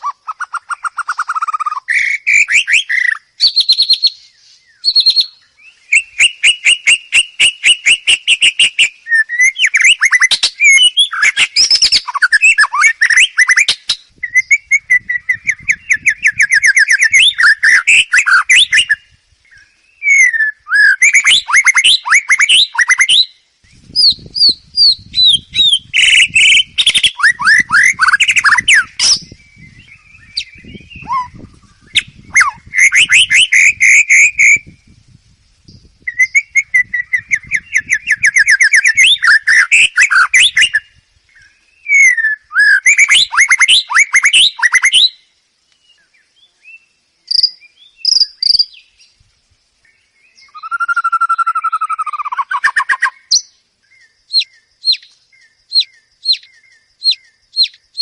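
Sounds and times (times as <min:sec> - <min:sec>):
sharp bird chips: 0:00.0 - 0:19.1, 0:19.8 - 0:34.8, 0:36.1 - 0:40.8, 0:47.3 - 0:48.9, 0:50.4 - 0:58.0
bird singing rapid trills: 0:00.0 - 0:58.0.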